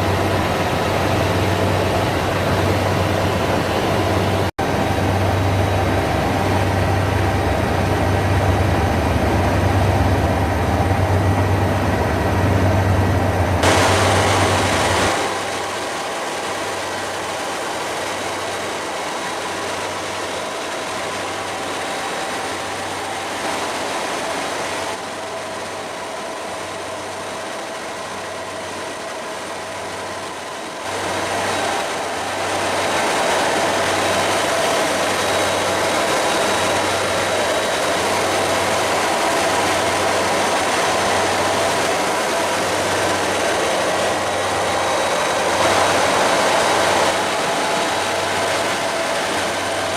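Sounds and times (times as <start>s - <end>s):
helicopter engine and rotor drone: 0.0s - 49.9s.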